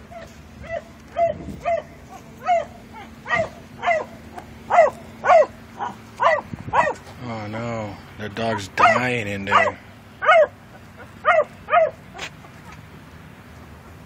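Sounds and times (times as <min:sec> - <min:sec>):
dog yelping: 0:00.0 - 0:07.0, 0:08.4 - 0:12.8.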